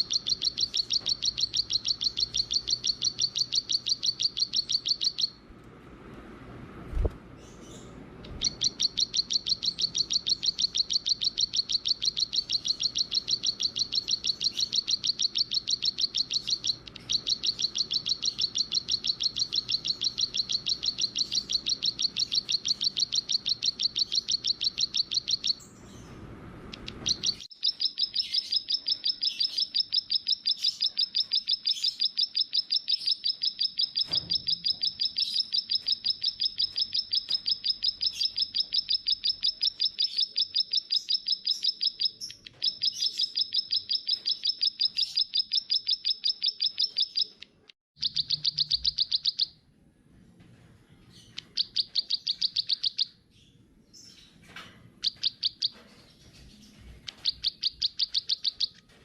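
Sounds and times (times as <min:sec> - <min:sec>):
songbird rapid high chirps: 0:00.0 - 0:05.4, 0:07.4 - 0:26.1, 0:26.7 - 0:49.5, 0:51.1 - 0:53.2, 0:56.6 - 0:58.8.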